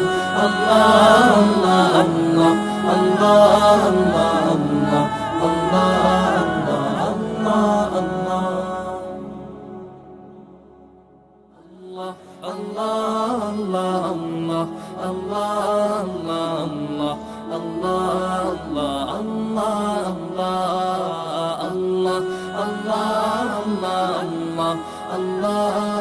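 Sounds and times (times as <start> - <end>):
layered voices chanting: 0.0 - 10.3, 11.6 - 26.0.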